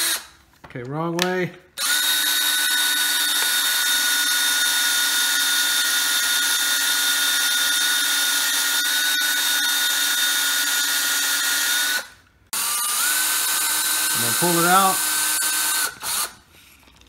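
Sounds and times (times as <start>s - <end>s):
cordless drill whining: 0.0s - 0.3s, 1.8s - 16.4s.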